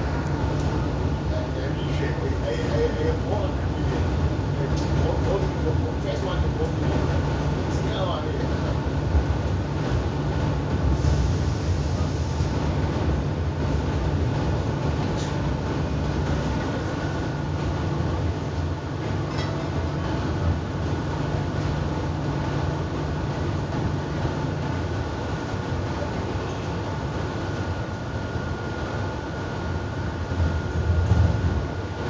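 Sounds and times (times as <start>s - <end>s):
train interior rumble: 0.0s - 32.0s.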